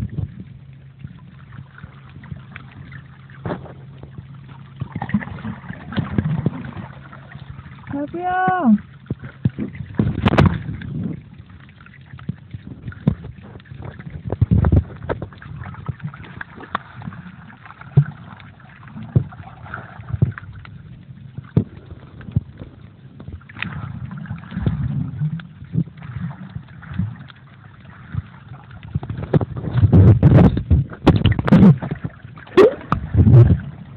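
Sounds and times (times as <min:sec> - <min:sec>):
muffled water sloshing and gurgling: 0:00.0 - 0:33.9.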